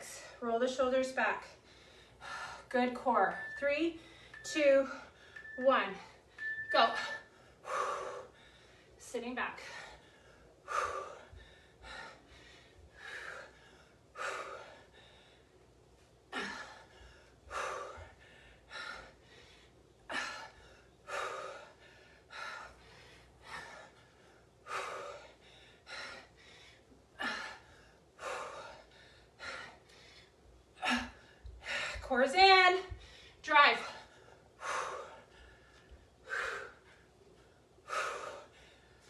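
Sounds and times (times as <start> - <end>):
woman breathing hard: 1.6 - 2.8, 4.0 - 9.0, 9.6 - 15.6, 16.3 - 32.1, 32.9 - 39.0.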